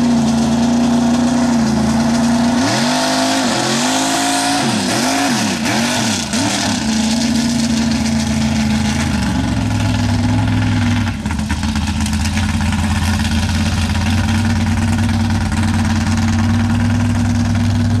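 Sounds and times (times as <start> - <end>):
truck engine revving and idling: 0.0 - 18.0.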